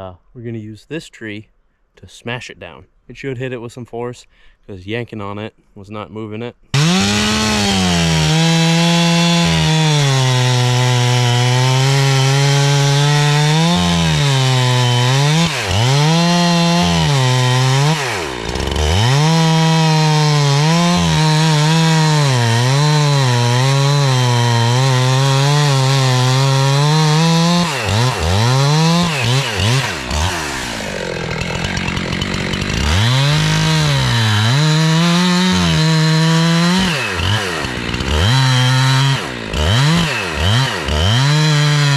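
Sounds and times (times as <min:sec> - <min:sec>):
chainsaw cutting at high revs: 0:06.7 - 0:41.9.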